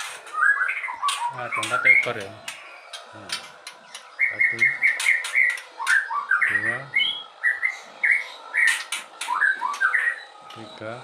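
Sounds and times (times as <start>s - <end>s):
bird chicks chirping: 0.0s - 11.0s.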